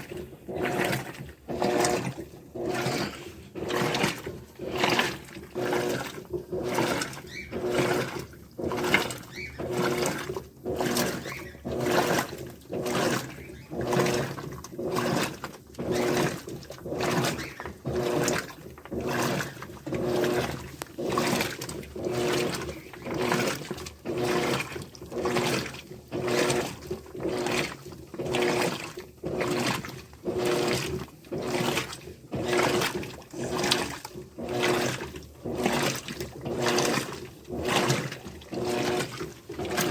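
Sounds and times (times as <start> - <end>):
washing machine motor hum: 0.0 - 39.9
water swishing in washing machine: 0.0 - 39.9.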